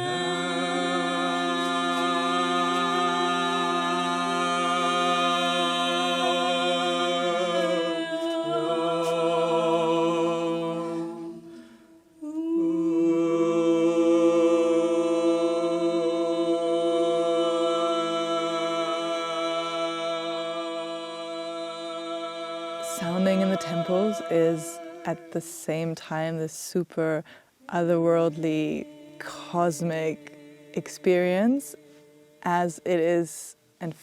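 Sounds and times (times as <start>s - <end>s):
voices singing in harmony: 0.0s - 34.0s.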